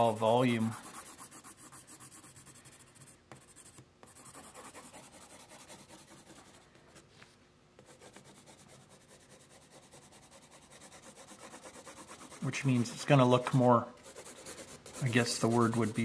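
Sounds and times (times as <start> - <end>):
pencil scratching on paper: 0.0 - 6.6, 7.8 - 16.0.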